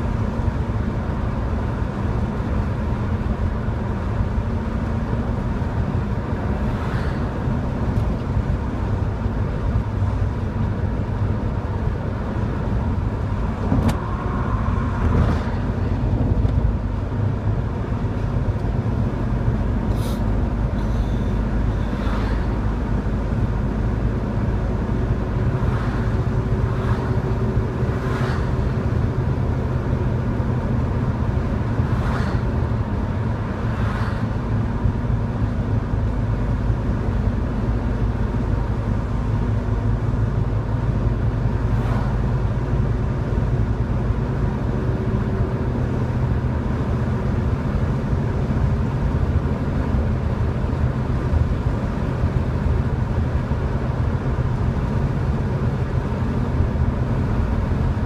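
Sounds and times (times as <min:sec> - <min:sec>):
car engine droning: 0:00.0 - 0:58.0.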